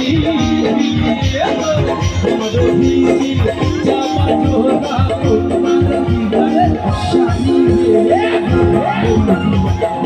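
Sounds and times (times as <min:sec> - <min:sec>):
drum beat: 0:00.0 - 0:10.0
sliding melody: 0:00.0 - 0:10.0.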